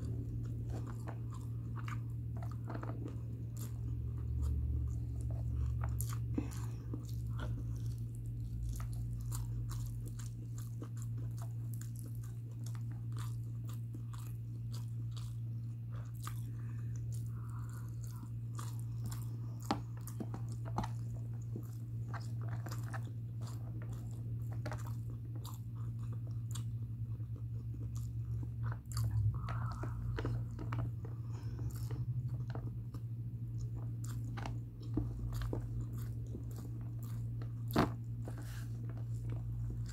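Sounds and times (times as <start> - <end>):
steady low hum: 0.0 - 39.9
wet chewing and smacks: 0.0 - 39.9.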